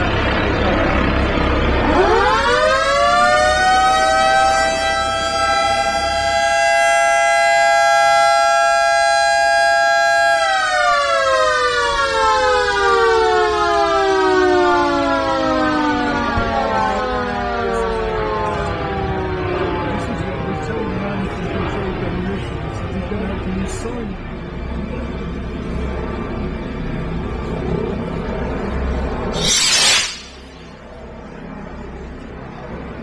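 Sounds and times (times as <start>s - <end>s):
warning siren wailing: 0.0s - 33.0s.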